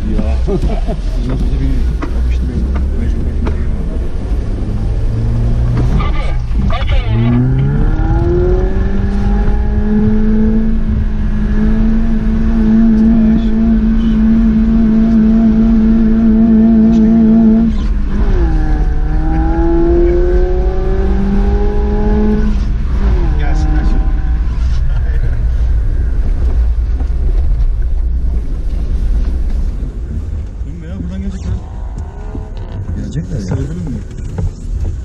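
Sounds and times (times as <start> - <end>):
off-road vehicle engine revving: 0.0 - 35.0.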